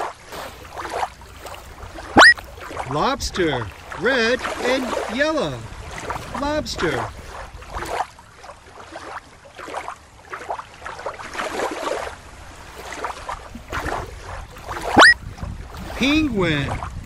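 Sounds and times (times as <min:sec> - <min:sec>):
water lapping at shoreline: 0:00.0 - 0:17.0.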